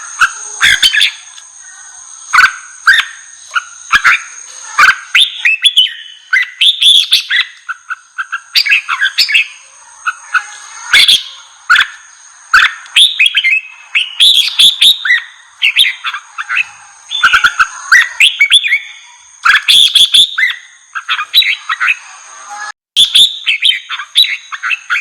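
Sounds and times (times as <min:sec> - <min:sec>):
bulbul whistled chirps: 0:00.0 - 0:22.2, 0:23.0 - 0:25.0.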